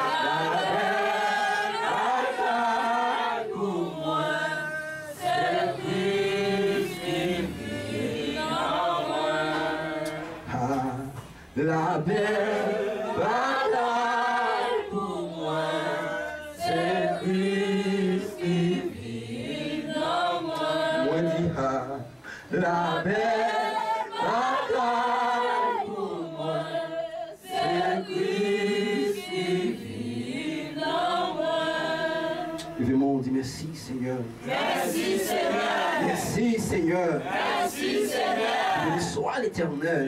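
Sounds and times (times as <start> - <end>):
group of voices singing: 0.0 - 40.0.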